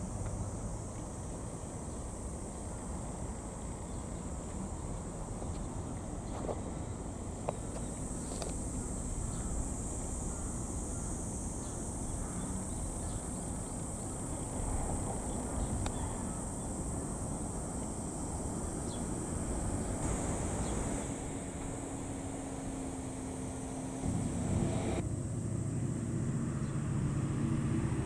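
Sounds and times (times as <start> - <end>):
insects droning: 0.0 - 28.0
low outdoor rumble: 0.0 - 28.0.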